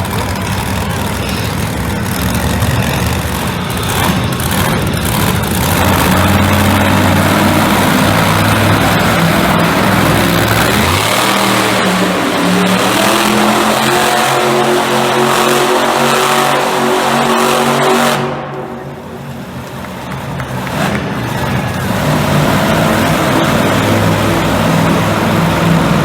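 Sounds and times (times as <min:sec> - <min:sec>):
monster truck engine running: 0:00.0 - 0:26.0.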